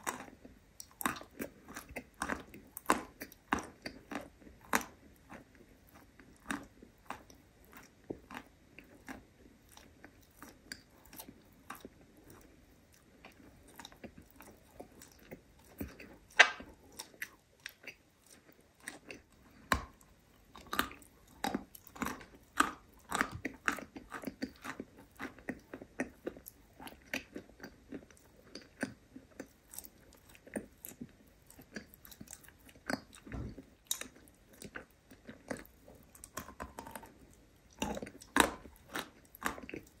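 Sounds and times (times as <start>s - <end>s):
crunchy chewing: 0.0s - 40.0s.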